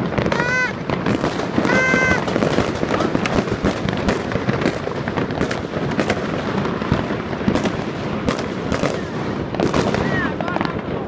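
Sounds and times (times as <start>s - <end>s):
fireworks crackling: 0.0s - 11.0s
loud firework reports: 0.0s - 11.0s.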